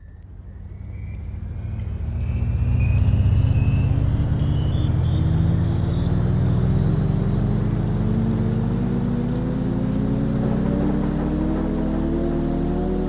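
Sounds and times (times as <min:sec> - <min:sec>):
engine running with rising pitch: 0:00.0 - 0:13.0
faint high whine: 0:00.0 - 0:13.0.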